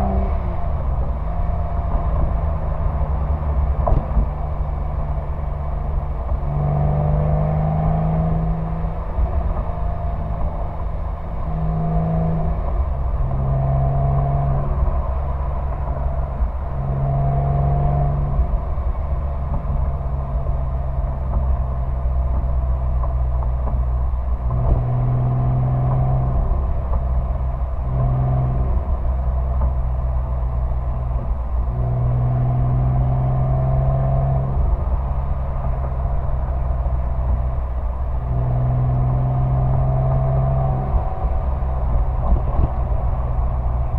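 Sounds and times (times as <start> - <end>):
sports car exhaust while driving: 0.0 - 43.9.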